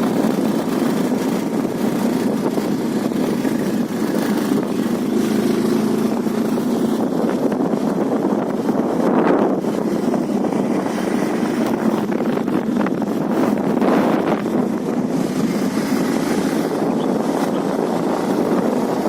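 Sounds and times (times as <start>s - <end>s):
motorcycle engine and road noise: 0.0s - 19.0s
wind rushing over microphone: 0.0s - 19.0s.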